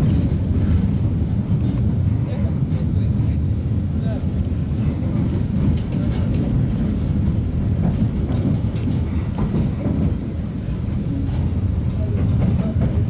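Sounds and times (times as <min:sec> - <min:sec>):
tram wheels rumbling: 0:00.0 - 0:13.0.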